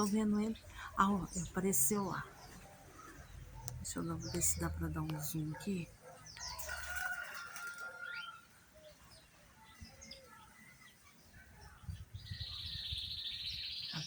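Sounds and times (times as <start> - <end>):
birds calling and whistling: 0.0 - 14.0.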